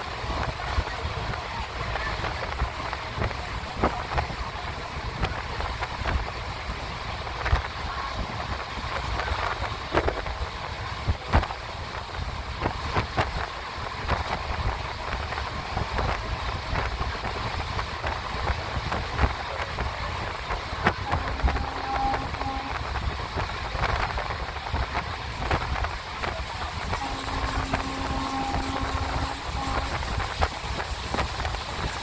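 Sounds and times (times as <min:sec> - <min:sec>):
train running rumble: 0:00.0 - 0:32.0
wind: 0:00.0 - 0:32.0.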